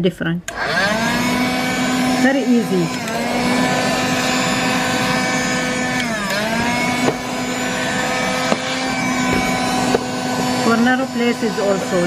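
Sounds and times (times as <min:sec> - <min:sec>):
handheld vacuum motor whine: 0:00.5 - 0:12.0.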